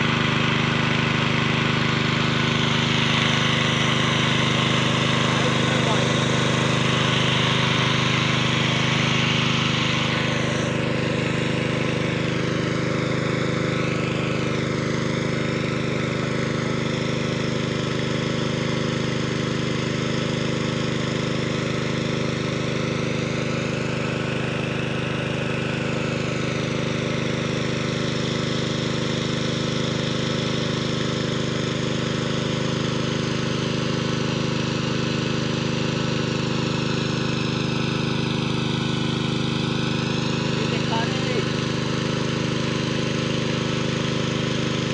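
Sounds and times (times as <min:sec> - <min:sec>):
petrol water pump running: 0:00.0 - 0:44.9.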